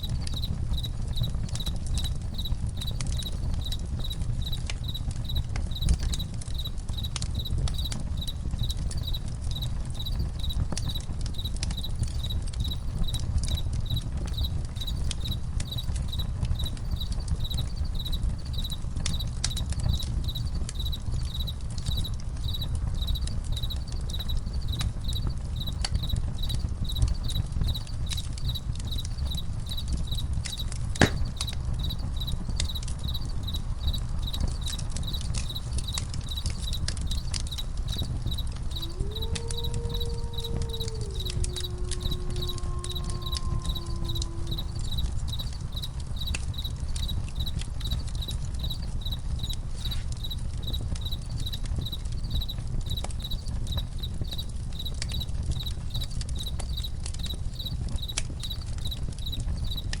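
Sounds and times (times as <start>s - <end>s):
crickets chirping: 0.0s - 59.9s
campfire crackling and popping: 0.0s - 60.0s.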